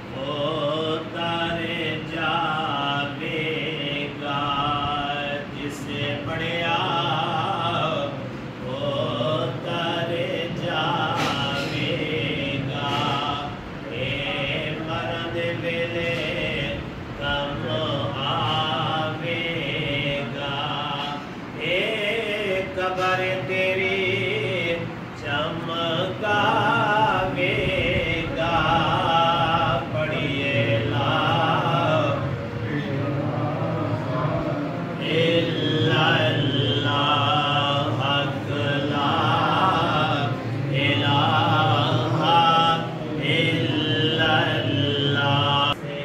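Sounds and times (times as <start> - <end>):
man chanting: 0.0 - 46.0.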